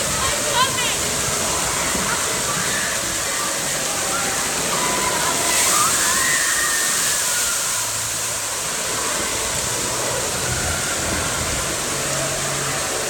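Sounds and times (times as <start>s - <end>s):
water jets spraying and splashing: 0.0s - 13.0s.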